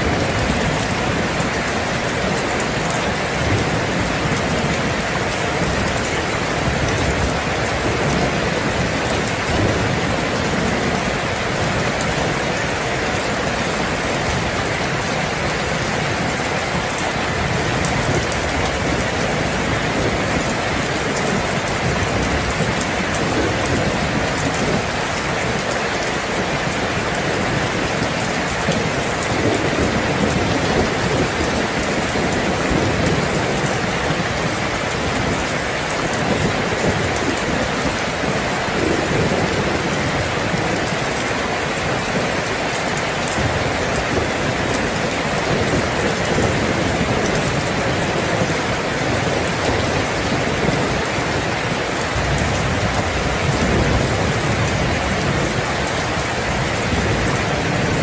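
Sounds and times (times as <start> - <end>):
low rumble of thunder: 0.0 - 41.2, 41.9 - 58.0
heavy rain falling: 0.0 - 58.0.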